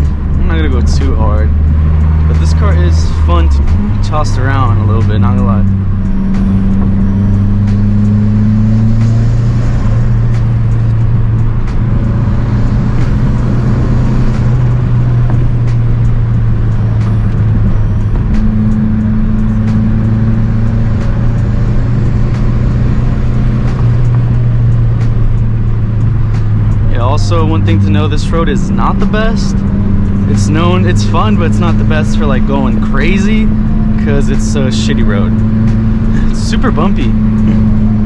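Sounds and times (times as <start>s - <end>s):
car engine droning: 0.0s - 38.0s.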